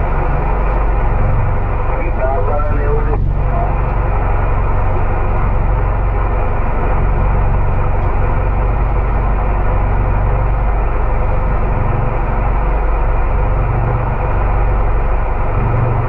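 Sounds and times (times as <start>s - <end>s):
boat engine droning: 0.0s - 16.0s
rushing water noise: 0.0s - 16.0s.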